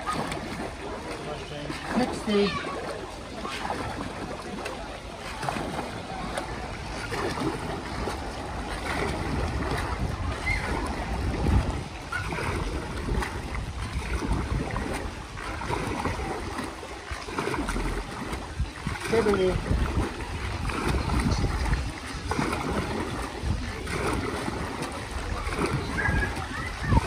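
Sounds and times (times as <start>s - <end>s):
paddle strokes splashing in water: 0.0s - 27.0s.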